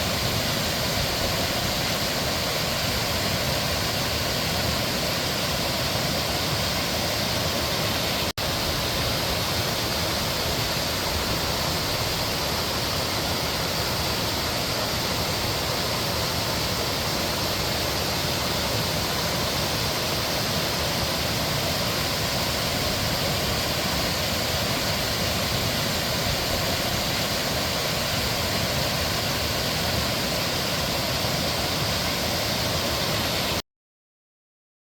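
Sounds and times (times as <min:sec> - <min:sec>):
stream rushing over rocks: 0:00.0 - 0:33.6.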